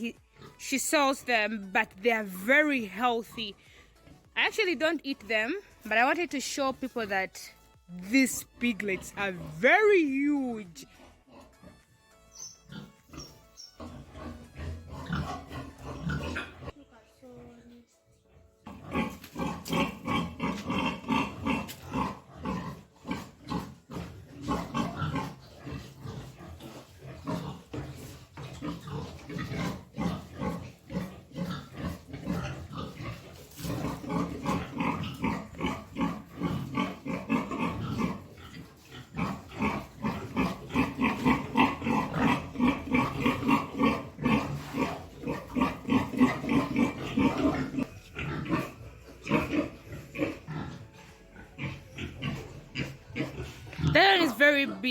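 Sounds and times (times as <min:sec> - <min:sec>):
pigs grunting: 0:00.0 - 0:16.8, 0:18.2 - 0:54.9.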